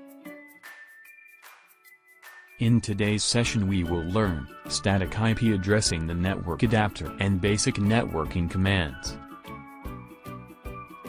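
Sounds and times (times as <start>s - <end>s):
plucked bell-like melody: 0.1s - 10.1s.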